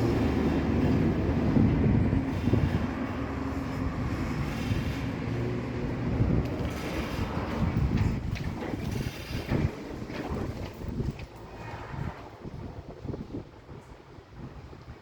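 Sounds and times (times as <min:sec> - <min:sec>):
car wash machine rumbling: 0:00.0 - 0:14.4.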